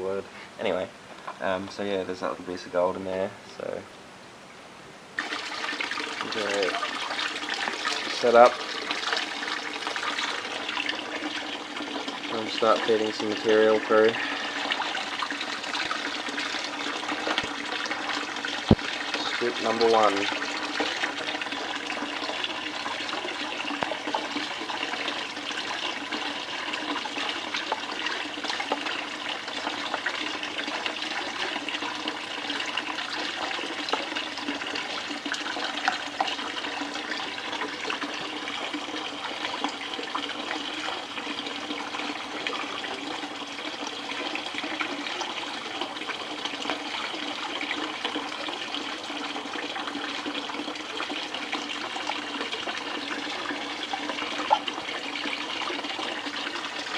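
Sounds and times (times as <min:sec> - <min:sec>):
water running down a table: 0:05.2 - 0:56.9.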